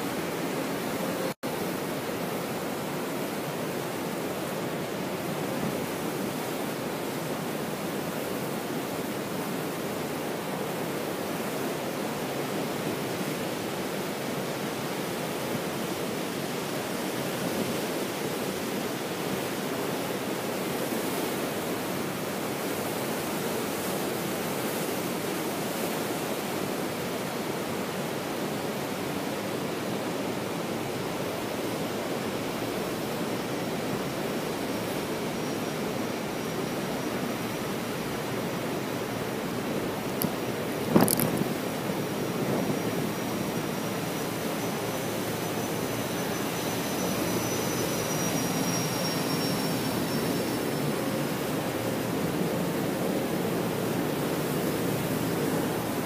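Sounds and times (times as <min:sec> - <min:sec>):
rushing water roar: 0:00.0 - 0:56.0.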